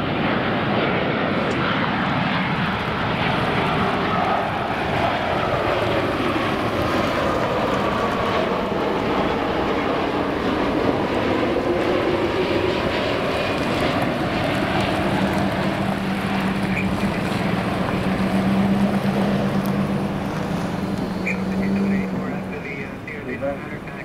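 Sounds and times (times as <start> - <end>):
jet engines roaring overhead: 0.0 - 24.0.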